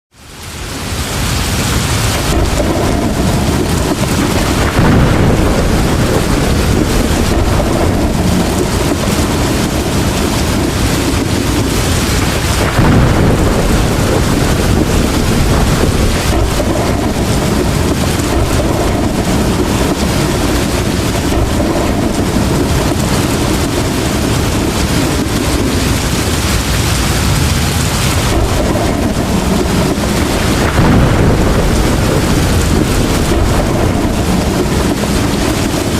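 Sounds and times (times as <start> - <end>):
heavy rain pouring: 0.1 - 35.9.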